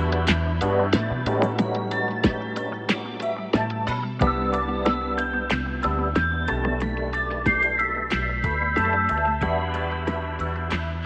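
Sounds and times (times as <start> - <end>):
keyboard chords over a beat: 0.0 - 11.0.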